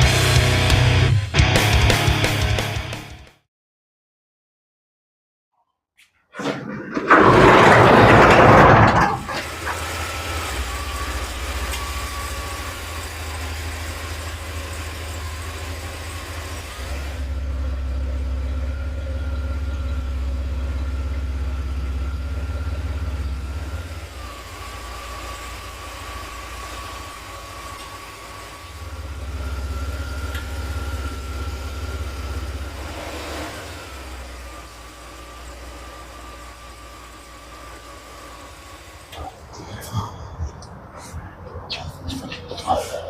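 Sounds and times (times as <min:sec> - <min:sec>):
vehicle engine starting and idling: 0:06.6 - 0:43.0.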